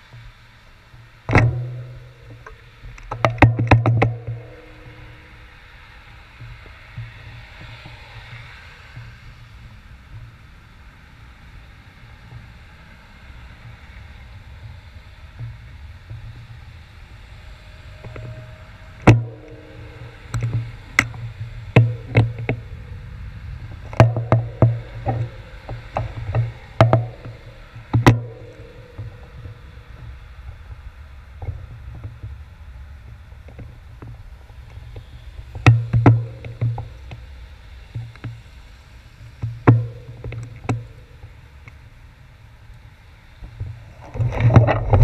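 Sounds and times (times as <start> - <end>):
low steady traffic noise: 0.0 - 45.0.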